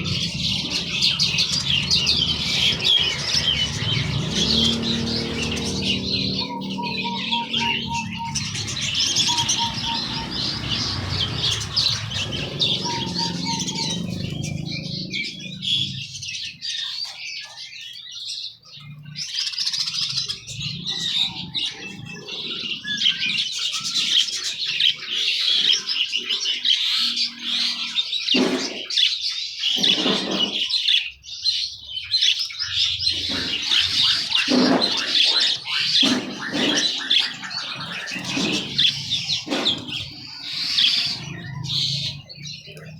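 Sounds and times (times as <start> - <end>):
songbirds chirping and singing: 0.0 - 42.9.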